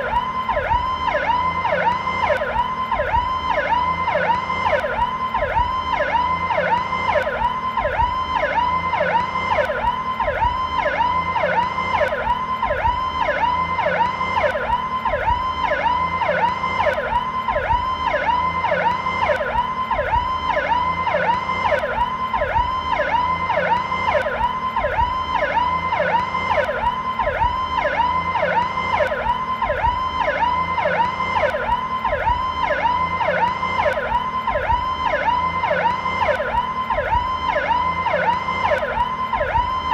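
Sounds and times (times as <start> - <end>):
slowed police siren wail: 0.0 - 39.9.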